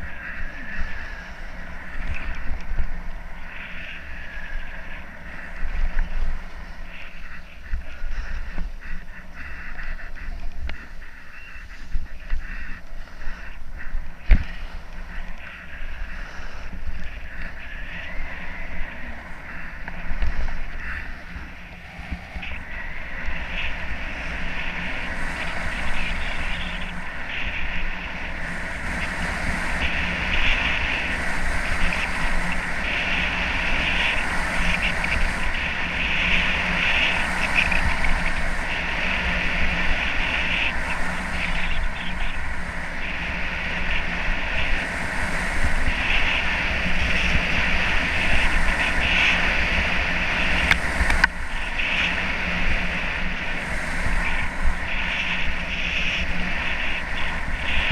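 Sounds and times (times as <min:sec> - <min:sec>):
wind buffeting camera: 0:00.0 - 0:57.9.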